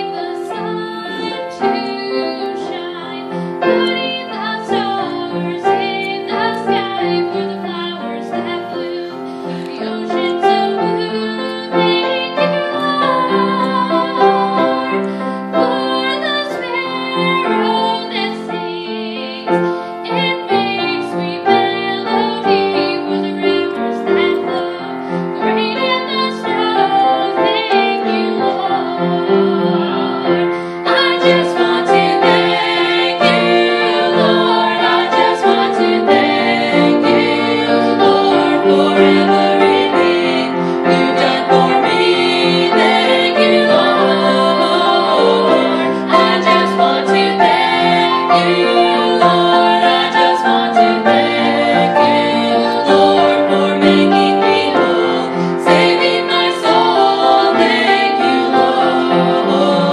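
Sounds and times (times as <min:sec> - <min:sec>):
piano accompaniment: 0:00.0 - 0:59.9
vocal trio singing gospel: 0:00.0 - 0:59.9.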